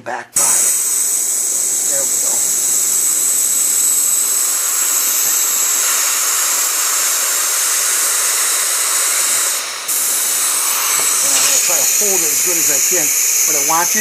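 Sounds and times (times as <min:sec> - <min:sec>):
air hissing into lungs: 0:00.4 - 0:14.0.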